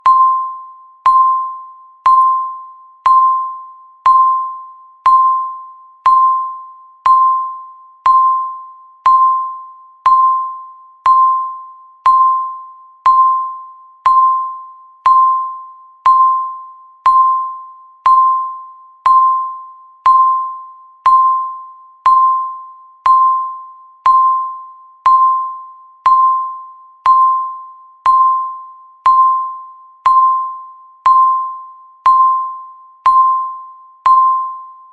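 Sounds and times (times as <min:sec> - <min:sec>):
countdown timer beeping: 0:00.0 - 0:34.8.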